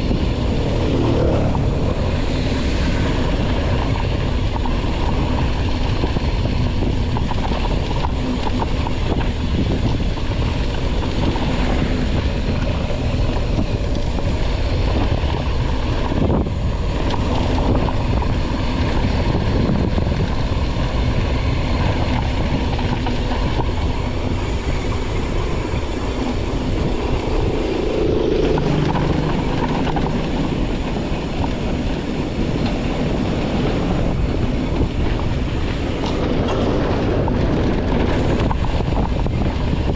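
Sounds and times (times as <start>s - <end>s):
mountain bike rumble and rattling: 0.0s - 39.9s.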